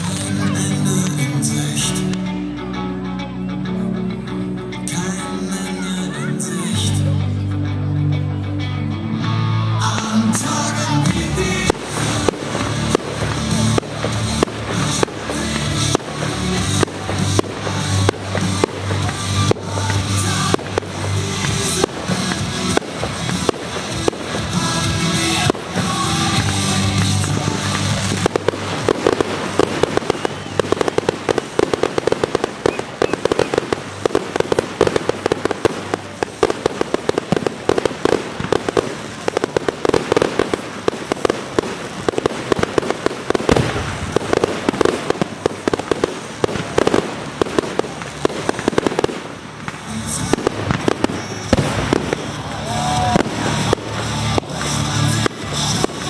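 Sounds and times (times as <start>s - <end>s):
fireworks crackling bangs: 0.0s - 2.2s, 9.9s - 56.0s
music playing: 0.0s - 56.0s.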